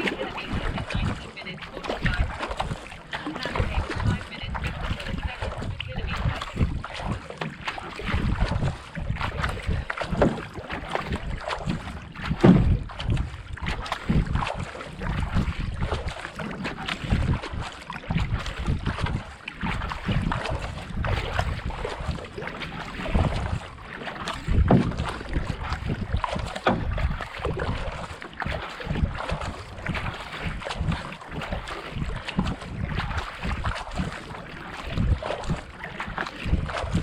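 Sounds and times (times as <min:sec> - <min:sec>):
paddle strokes in water: 0:00.0 - 0:37.0
wind buffeting microphone: 0:00.0 - 0:37.0.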